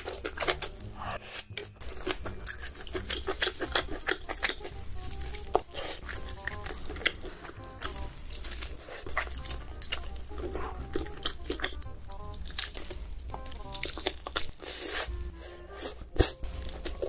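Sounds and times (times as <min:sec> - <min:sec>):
chewing noodles: 0:00.0 - 0:17.0
quiet background music: 0:00.0 - 0:17.0.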